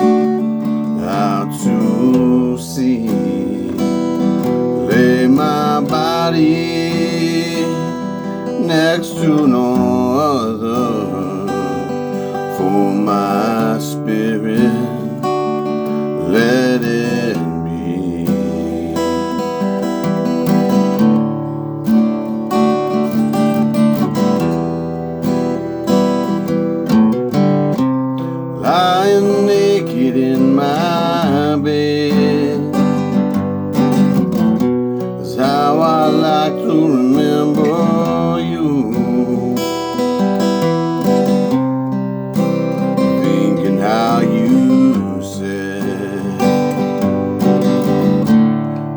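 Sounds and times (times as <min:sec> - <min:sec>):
acoustic guitar strummed and picked: 0:00.0 - 0:48.9.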